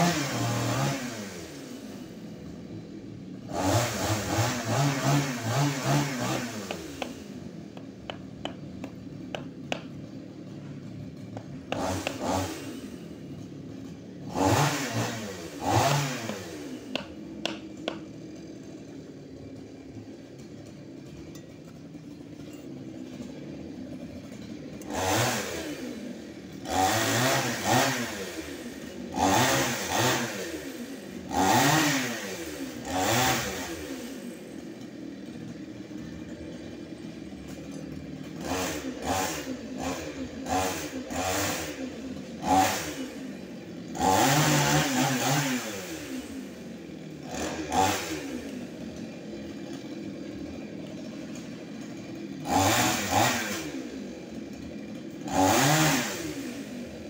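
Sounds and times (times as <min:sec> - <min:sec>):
chainsaw revving and idling: 0:00.0 - 0:57.0.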